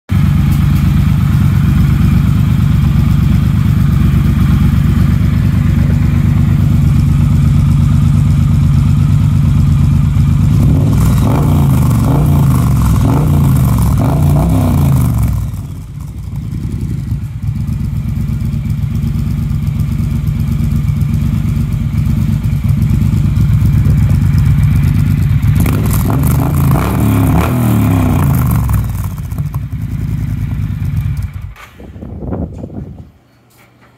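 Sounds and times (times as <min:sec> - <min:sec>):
motorcycle engine idling and revving: 0:00.1 - 0:32.8.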